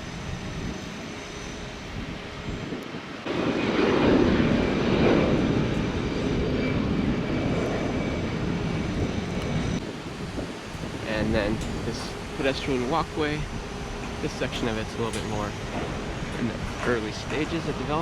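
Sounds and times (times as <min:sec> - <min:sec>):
plane passing: 0:00.0 - 0:18.0.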